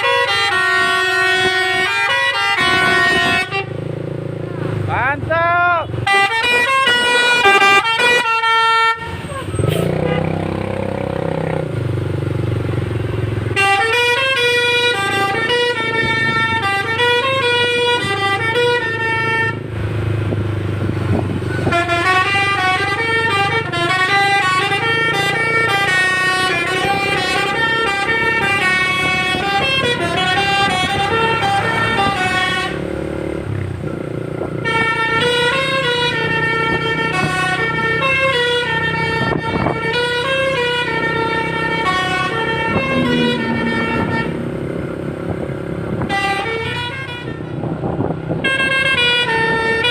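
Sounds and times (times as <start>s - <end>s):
musical bus horn melody: 0.0s - 4.0s, 5.9s - 11.7s, 13.0s - 19.8s, 21.5s - 33.4s, 34.4s - 49.9s
bus engine hum: 0.0s - 49.9s.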